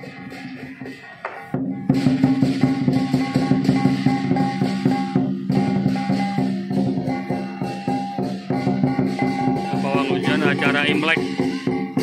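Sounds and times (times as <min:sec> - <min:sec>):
music with rapid percussive beat: 0:00.0 - 0:12.0.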